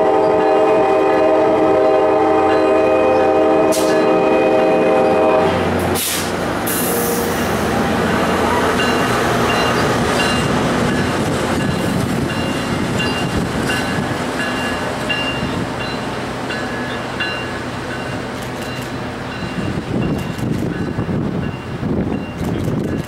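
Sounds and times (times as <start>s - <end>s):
diesel train engine running: 0.0s - 23.0s.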